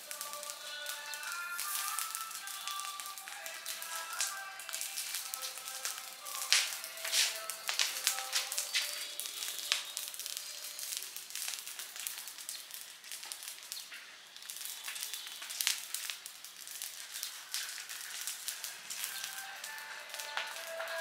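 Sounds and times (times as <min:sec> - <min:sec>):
fire crackling and popping: 0:00.0 - 0:21.0
steady high hiss: 0:00.0 - 0:21.0.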